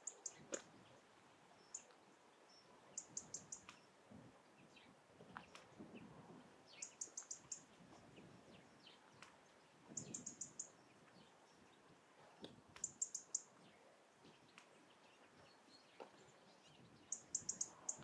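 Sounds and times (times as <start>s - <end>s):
faint bird chirps: 0.0s - 4.0s, 4.6s - 18.0s.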